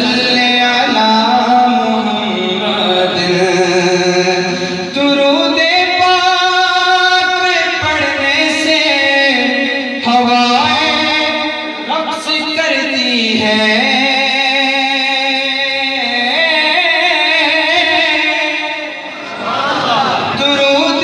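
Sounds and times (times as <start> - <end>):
man singing devotional song: 0.0 - 19.1, 20.3 - 21.0.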